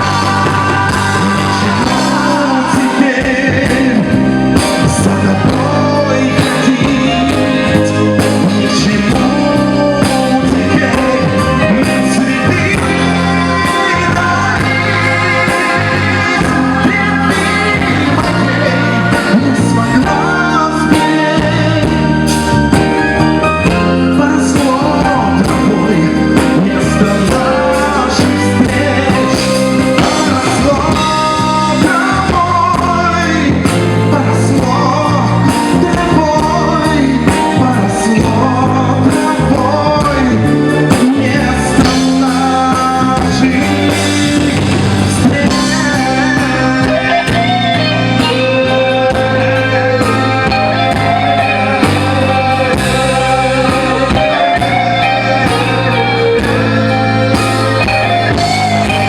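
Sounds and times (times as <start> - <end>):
bass line: 0.0 - 59.0
electric guitar: 0.0 - 59.0
person singing: 0.0 - 59.0.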